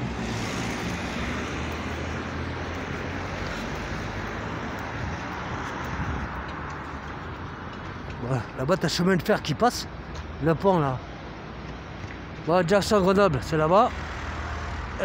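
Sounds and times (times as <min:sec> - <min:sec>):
cars driving past: 0:00.0 - 0:10.6, 0:11.3 - 0:15.0.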